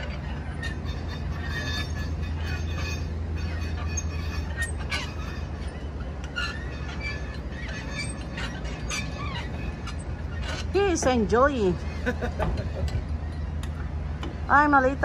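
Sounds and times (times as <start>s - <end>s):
metal gears squeaking and clicking: 0.0s - 14.4s
steady low hum: 0.0s - 15.0s.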